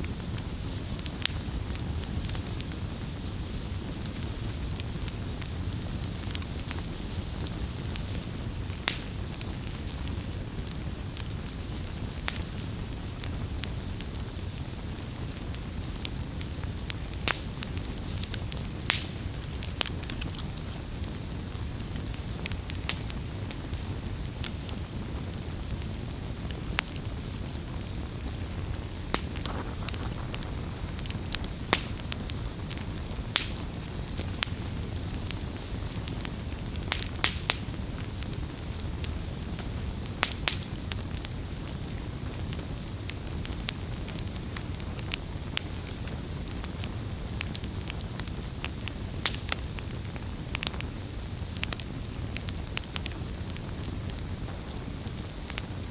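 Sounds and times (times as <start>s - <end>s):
campfire pops and snaps: 0.0s - 55.9s
low rush of burning: 0.0s - 55.9s.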